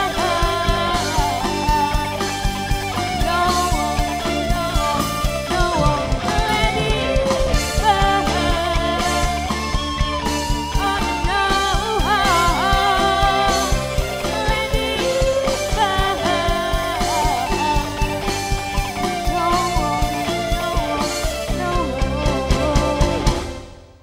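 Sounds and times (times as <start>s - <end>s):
live band playing pop ballad: 0.0s - 24.0s.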